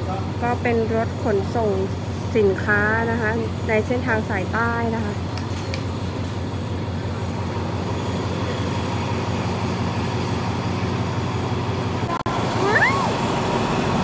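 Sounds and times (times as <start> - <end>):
diesel freight train rumble: 0.0 - 14.0.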